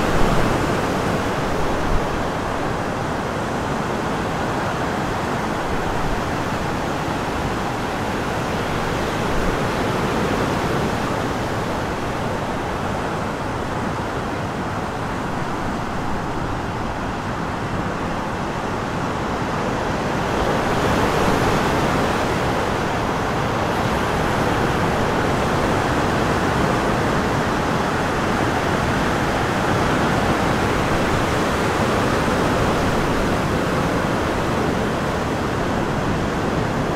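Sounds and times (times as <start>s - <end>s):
wind: 0.0s - 36.9s.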